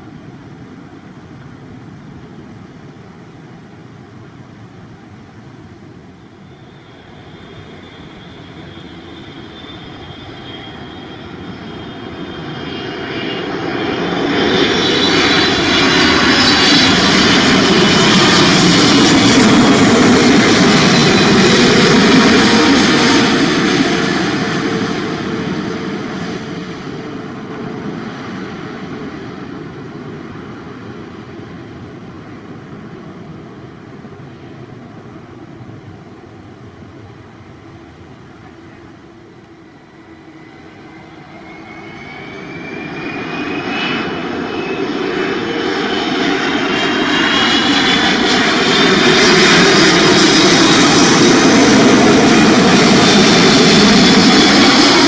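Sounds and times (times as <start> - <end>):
approaching jet engines whining: 0.0 - 55.0
jet engines of landing airliner: 0.0 - 55.0.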